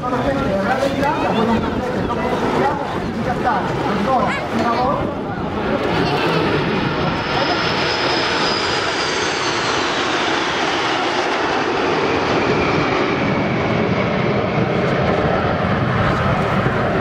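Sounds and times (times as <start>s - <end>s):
jet aircraft flying past: 0.0s - 17.0s.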